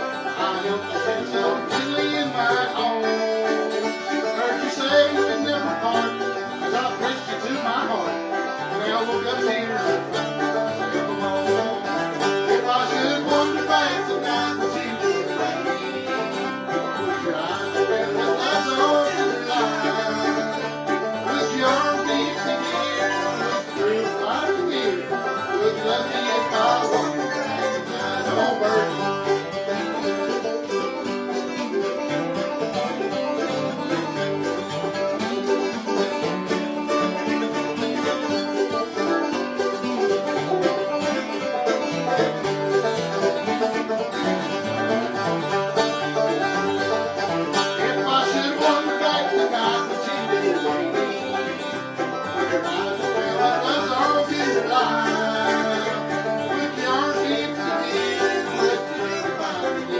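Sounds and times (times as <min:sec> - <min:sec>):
banjo picking: 0:00.0 - 0:59.9
guitar backing: 0:00.0 - 0:59.9.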